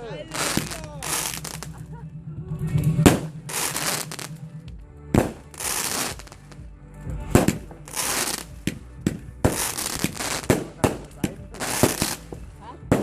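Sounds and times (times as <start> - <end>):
fireworks banging and crackling: 0.3 - 6.6, 7.3 - 13.0.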